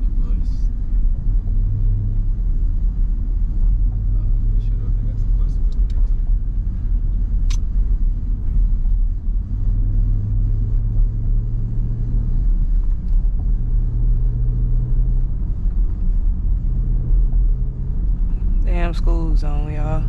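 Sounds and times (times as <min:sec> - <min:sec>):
car engine running low: 0:00.0 - 0:20.0
road rumble: 0:00.0 - 0:20.0.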